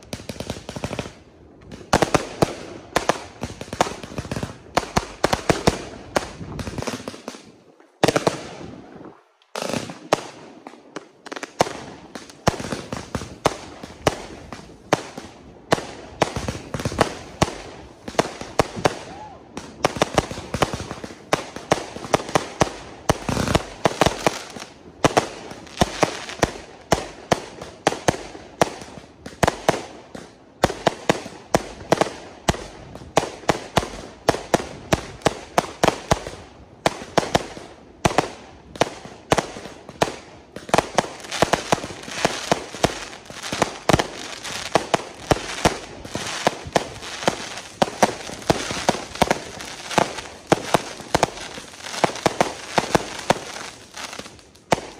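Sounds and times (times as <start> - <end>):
fireworks bangs: 0.0 - 54.9.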